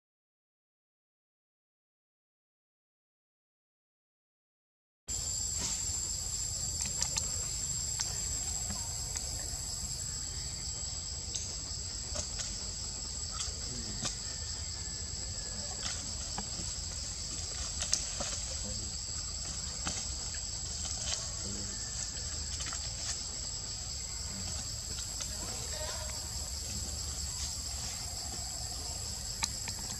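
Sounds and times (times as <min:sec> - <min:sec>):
insects trilling: 0:05.1 - 0:29.9.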